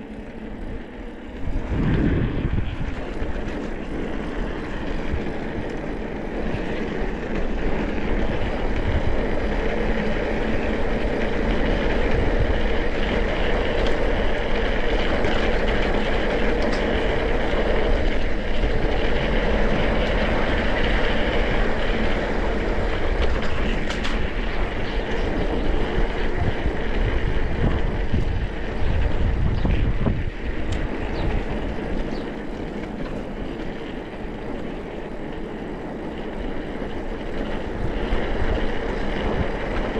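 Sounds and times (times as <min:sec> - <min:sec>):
mountain bike rattling on trail: 0:00.0 - 0:39.9
wind rushing over microphone: 0:00.0 - 0:39.9.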